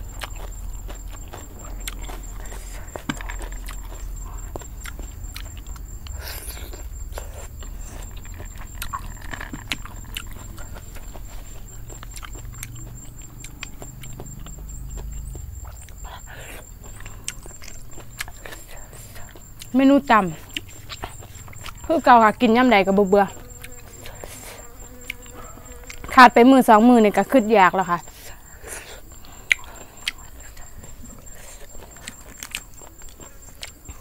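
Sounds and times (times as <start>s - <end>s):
person chewing: 0.0s - 19.7s, 20.3s - 21.9s, 23.3s - 26.1s, 28.6s - 34.0s.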